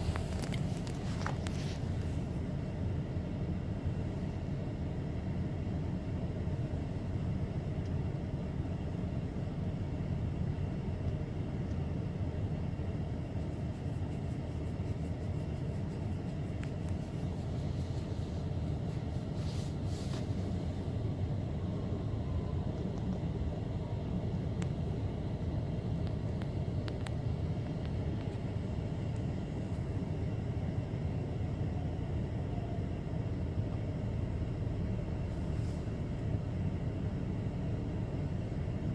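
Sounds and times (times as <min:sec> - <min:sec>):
low rumble inside car: 0:00.0 - 0:38.9.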